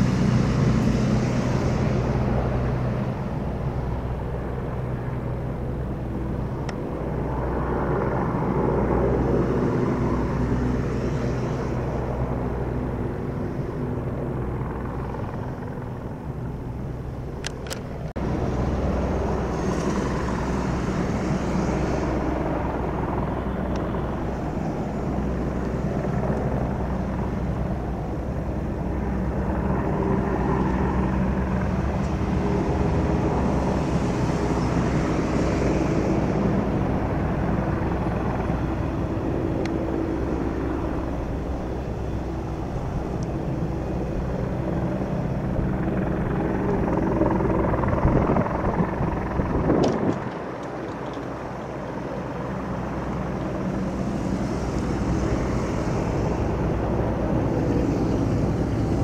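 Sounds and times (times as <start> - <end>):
helicopter hovering overhead: 0.0 - 59.0.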